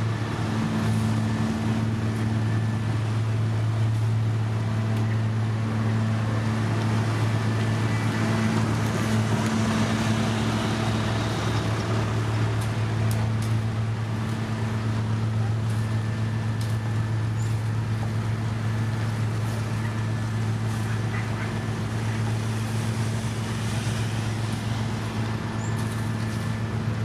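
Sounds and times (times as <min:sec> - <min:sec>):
diesel engine low hum: 0:00.0 - 0:27.0.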